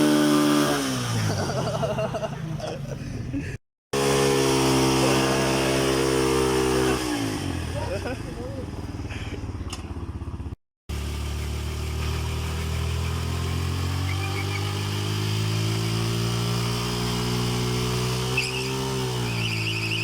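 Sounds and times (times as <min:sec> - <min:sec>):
motorcycle engine revving high: 0:00.0 - 0:01.6, 0:04.0 - 0:09.3, 0:10.0 - 0:20.0.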